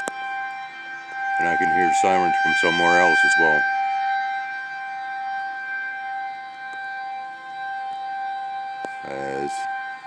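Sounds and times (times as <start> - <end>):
civil defense siren steady tone: 0.0 - 10.0.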